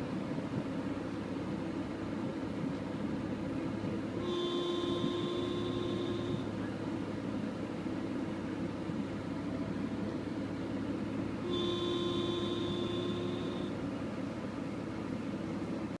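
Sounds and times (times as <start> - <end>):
car whine: 0.0 - 16.0
steady mechanical hum: 0.0 - 16.0.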